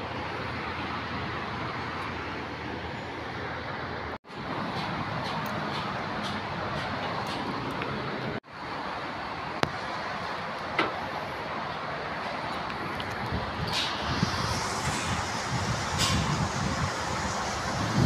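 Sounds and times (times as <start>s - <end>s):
distant road traffic: 0.0s - 18.0s
wind: 0.0s - 18.0s.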